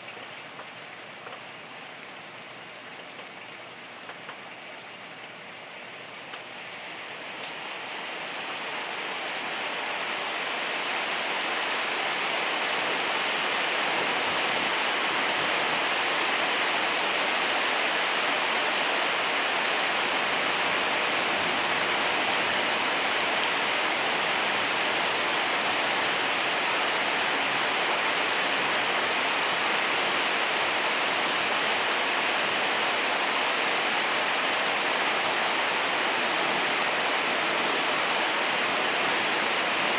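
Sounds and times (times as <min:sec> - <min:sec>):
heavy rain hissing: 0:05.3 - 0:39.9.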